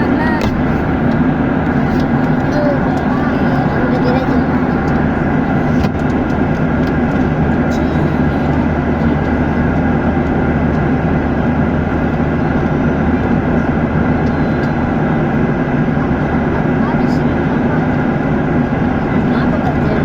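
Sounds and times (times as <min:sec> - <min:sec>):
airliner cabin engine drone: 0:00.0 - 0:20.0
low hum: 0:00.0 - 0:20.0.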